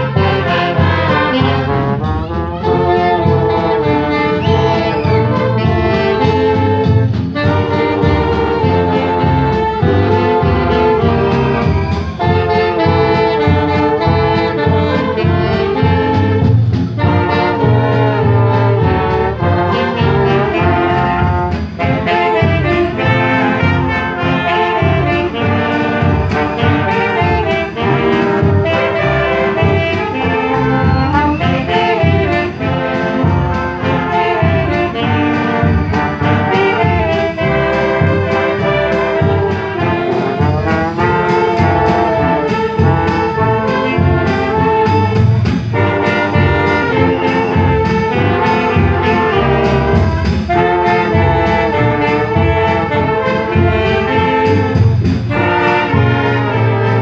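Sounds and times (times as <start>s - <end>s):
trombones: 0.0s - 57.0s
wind band playing: 0.0s - 57.0s.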